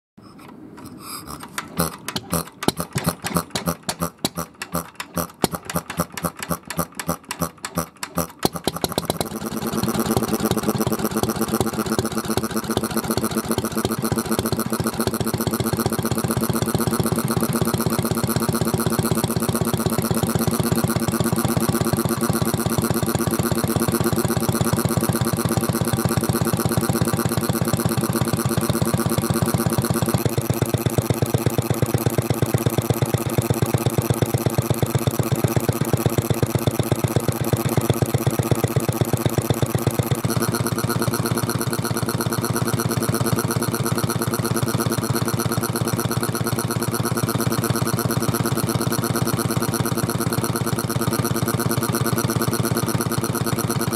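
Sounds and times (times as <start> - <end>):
flywheel spinning by hand: 0.8 - 53.9
stationary engine running: 1.0 - 53.9.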